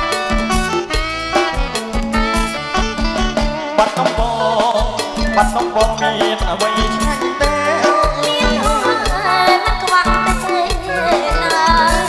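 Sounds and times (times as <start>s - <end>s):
drum kit beat: 0.0s - 12.0s
electric bass: 0.0s - 12.0s
live dance band music: 0.0s - 12.0s.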